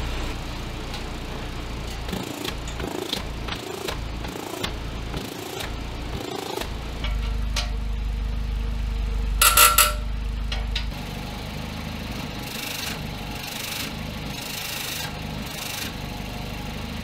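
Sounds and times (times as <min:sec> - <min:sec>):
car engine idling through exhaust: 0:00.0 - 0:17.0.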